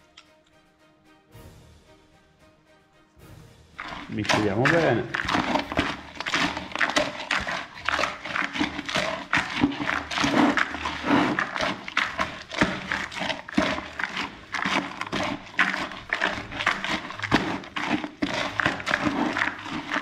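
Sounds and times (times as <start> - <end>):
hand stirring wet grains: 3.8 - 20.0.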